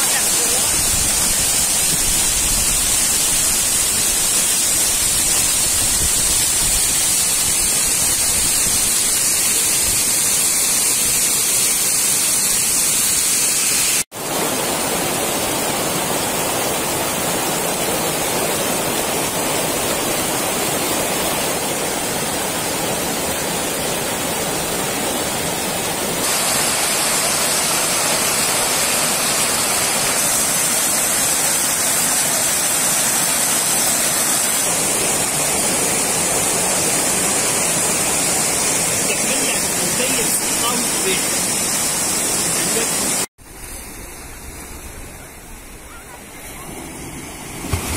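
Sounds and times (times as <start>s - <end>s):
water rushing over rocks: 0.0s - 47.9s.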